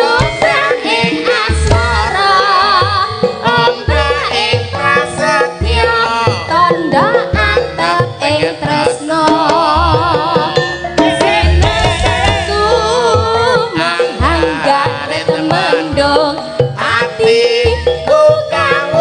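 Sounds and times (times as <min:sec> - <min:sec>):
person singing ornamented vocal line: 0:00.0 - 0:19.0
pitched metal percussion: 0:00.0 - 0:19.0.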